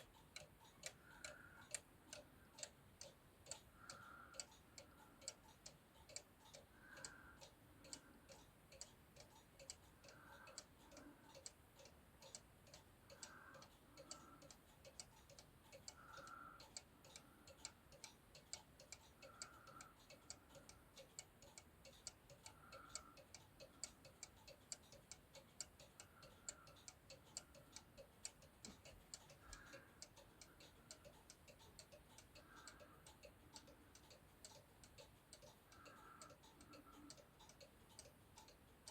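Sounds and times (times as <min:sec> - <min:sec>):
clock ticking faintly: 0:00.0 - 0:38.9.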